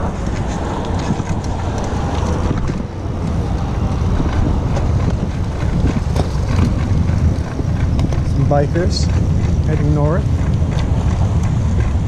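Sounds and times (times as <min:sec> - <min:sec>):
tyre and road noise: 0:00.0 - 0:12.0
wind buffeting microphone: 0:00.0 - 0:12.0.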